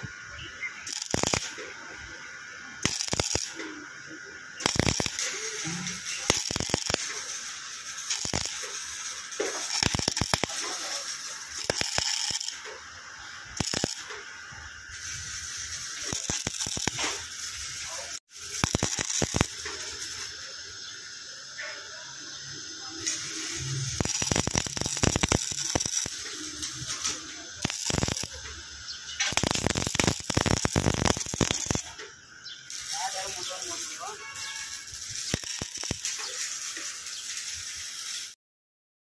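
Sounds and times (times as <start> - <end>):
arc welding crackling: 0.0 - 38.4.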